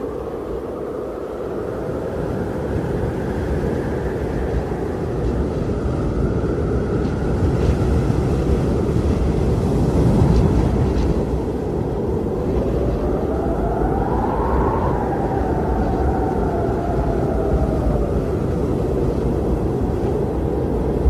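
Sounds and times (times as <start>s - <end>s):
strong wind rumbling: 0.0s - 21.0s.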